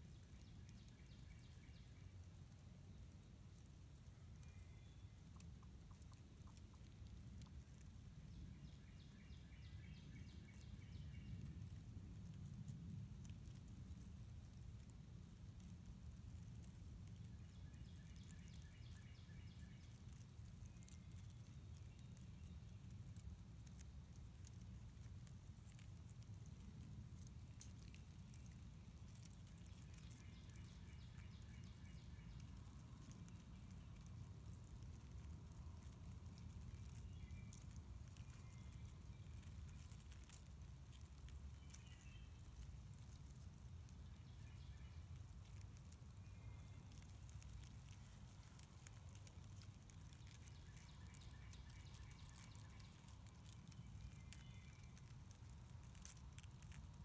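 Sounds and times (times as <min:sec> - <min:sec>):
light ticks: 0:00.1 - 0:57.0.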